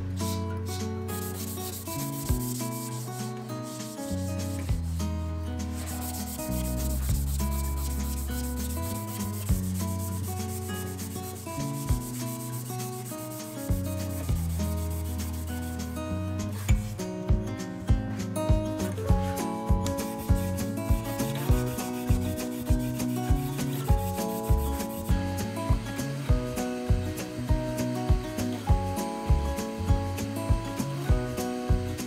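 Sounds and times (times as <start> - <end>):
hand rubbing wooden panels: 0.0 - 5.0, 5.6 - 17.0, 18.2 - 32.0
background music with bass: 0.0 - 32.0.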